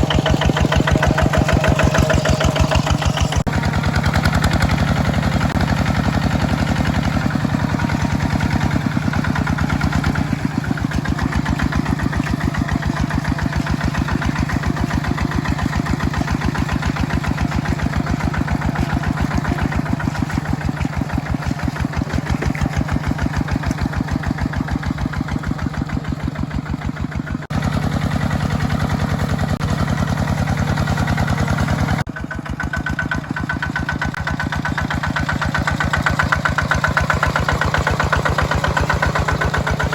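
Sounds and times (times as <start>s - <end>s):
small tractor engine chugging: 0.0s - 39.9s.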